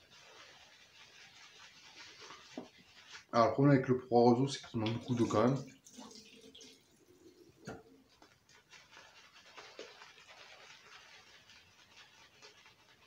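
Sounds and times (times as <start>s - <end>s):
shaving brush swishing lather: 0.0s - 5.6s, 8.0s - 13.0s.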